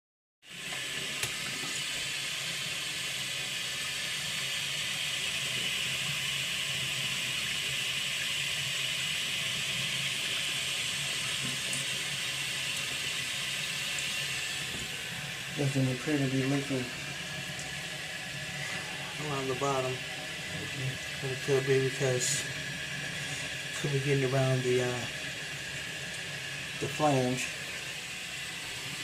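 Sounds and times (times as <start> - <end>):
water running steadily: 0.4 - 29.0.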